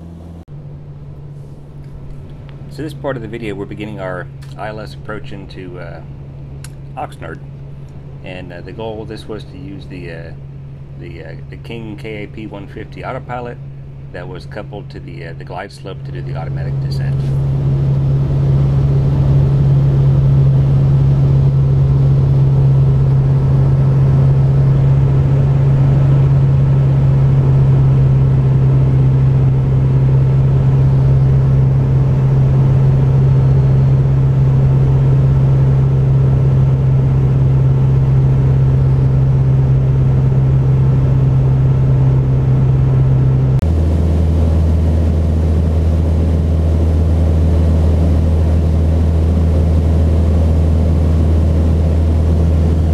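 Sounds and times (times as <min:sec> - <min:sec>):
aircraft engine and propeller drone: 0:00.0 - 0:52.9.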